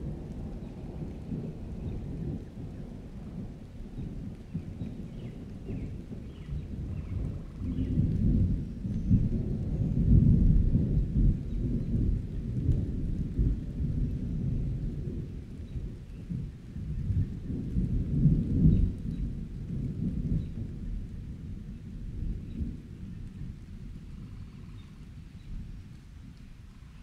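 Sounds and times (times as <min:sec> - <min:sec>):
rain falling: 0:00.0 - 0:27.0
thunder rumbling: 0:00.0 - 0:27.0.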